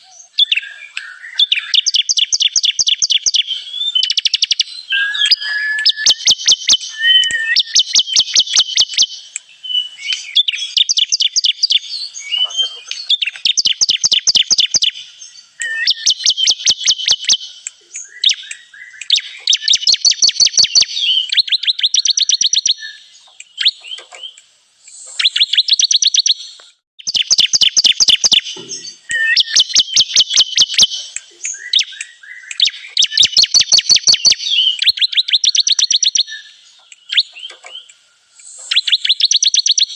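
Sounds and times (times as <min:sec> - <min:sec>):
bird song with fast trills: 0:00.0 - 0:39.9.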